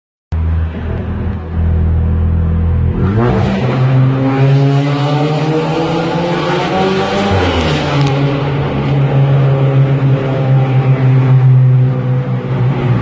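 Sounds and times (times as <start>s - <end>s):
car engine accelerating hard: 0.6s - 13.0s.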